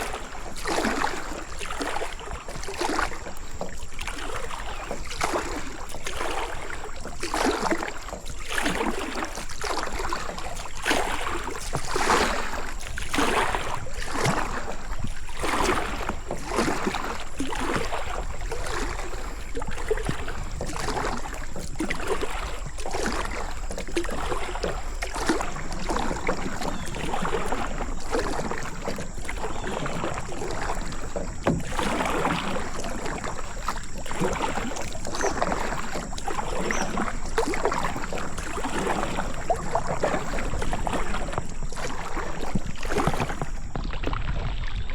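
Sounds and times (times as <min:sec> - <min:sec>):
kayak paddle splashing in water: 0:00.0 - 0:44.9.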